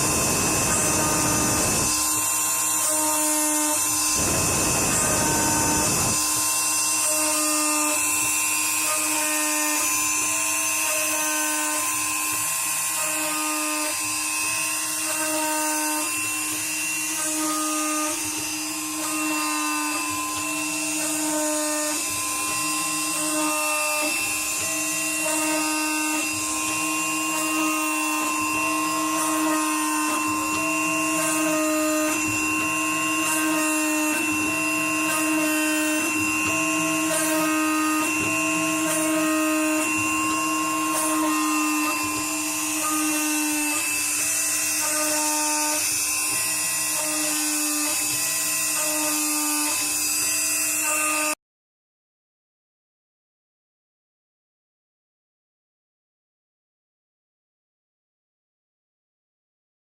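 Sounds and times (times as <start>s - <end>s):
steady motor whine: 0.0s - 51.4s
stepper motors whining: 0.0s - 51.4s.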